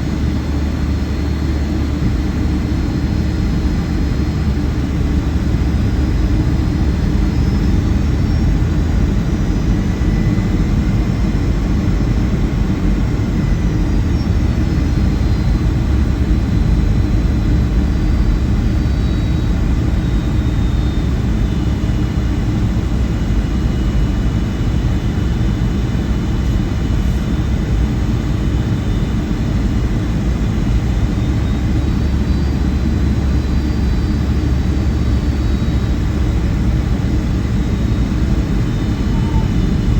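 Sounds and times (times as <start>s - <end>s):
faint high whines: 0.0s - 39.9s
jet engine rumble: 0.0s - 39.9s.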